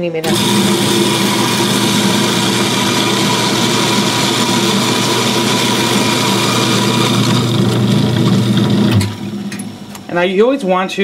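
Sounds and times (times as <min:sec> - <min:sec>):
coffee grinder grinding beans: 0:00.2 - 0:09.4.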